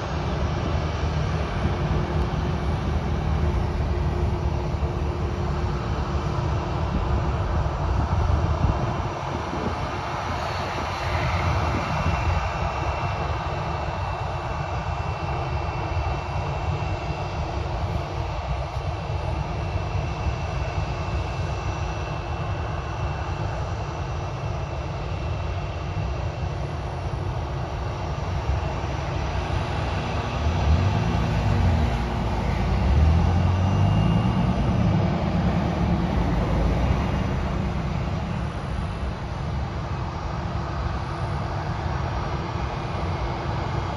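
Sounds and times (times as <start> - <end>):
jet engines with high whine: 0.0 - 43.9.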